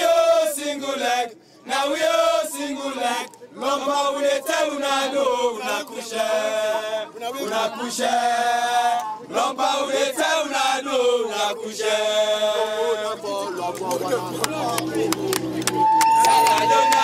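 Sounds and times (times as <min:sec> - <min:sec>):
group of men chanting in unison: 0:00.0 - 0:14.3.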